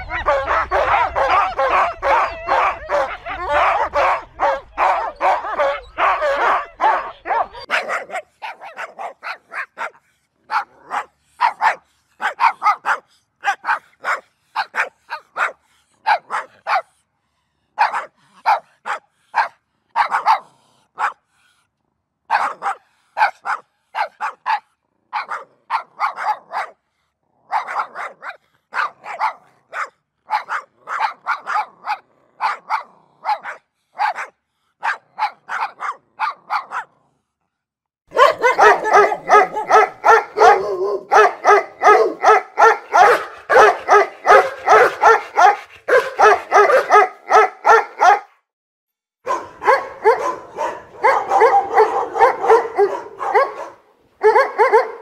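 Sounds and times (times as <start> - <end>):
dog barking: 0.0 - 17.0, 17.8 - 21.2, 22.3 - 26.8, 27.4 - 37.0, 38.1 - 48.4, 49.2 - 55.0.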